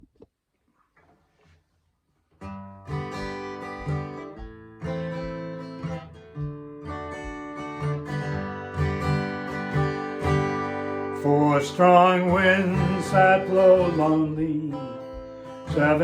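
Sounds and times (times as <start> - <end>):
acoustic guitar strumming chords: 2.4 - 16.0.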